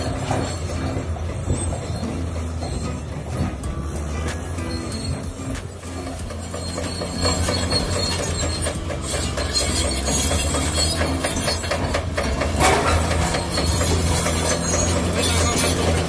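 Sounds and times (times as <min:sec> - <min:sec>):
diesel engine running: 0:00.0 - 0:16.0
steel crawler tracks clanking and squealing: 0:00.0 - 0:16.0.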